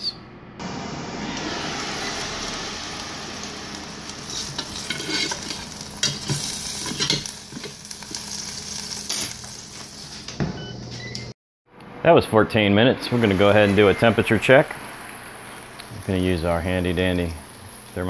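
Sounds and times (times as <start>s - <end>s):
steak sizzling: 0.6s - 10.3s, 13.1s - 18.0s.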